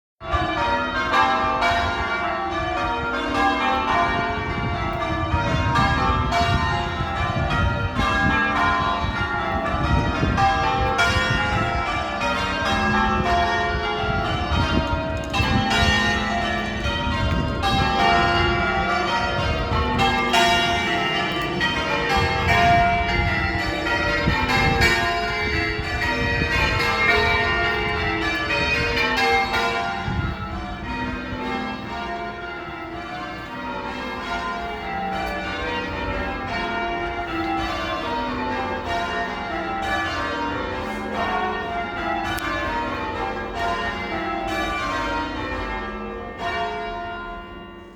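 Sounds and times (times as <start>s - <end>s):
church bells ringing: 0.2s - 47.9s.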